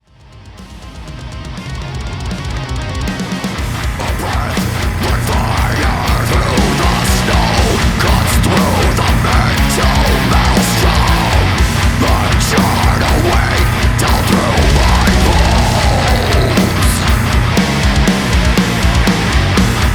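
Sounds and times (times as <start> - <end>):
heavy metal band playing: 0.0 - 19.9
fast drumming: 0.9 - 19.9.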